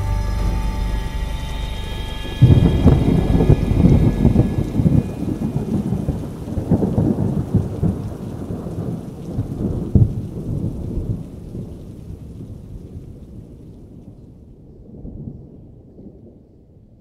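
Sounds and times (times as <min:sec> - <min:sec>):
rolling thunder: 0:00.0 - 0:16.9
rain: 0:00.0 - 0:17.0.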